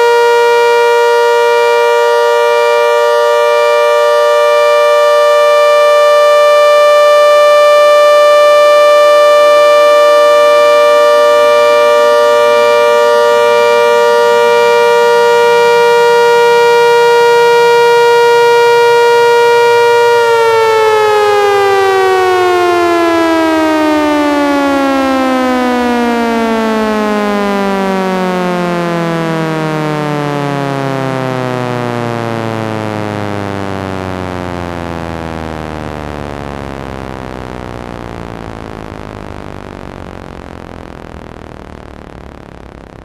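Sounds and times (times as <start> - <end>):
warning siren winding down: 0.0 - 43.0.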